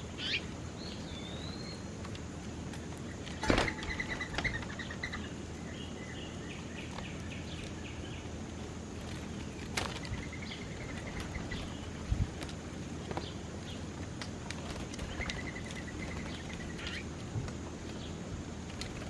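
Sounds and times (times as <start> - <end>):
outdoor background noise: 0.0 - 19.0
small birds chirping: 0.0 - 19.0.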